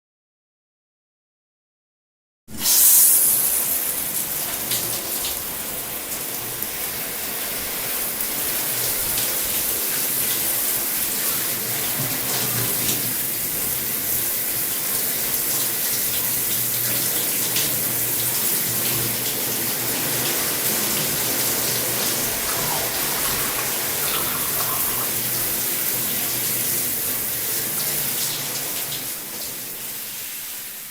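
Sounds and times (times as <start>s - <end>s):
shower spray running: 2.5s - 30.9s.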